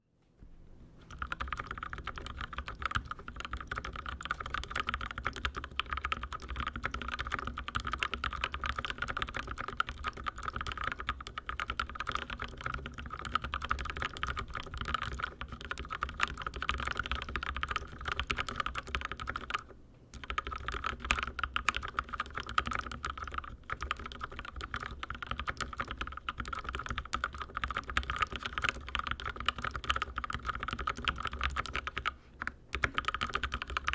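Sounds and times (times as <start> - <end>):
fast typing on mechanical keyboard: 1.1 - 33.9.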